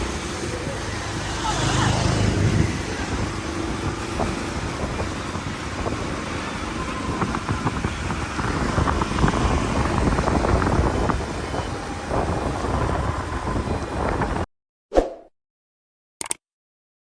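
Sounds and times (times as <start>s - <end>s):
engine and road noise rumble: 0.0s - 14.5s.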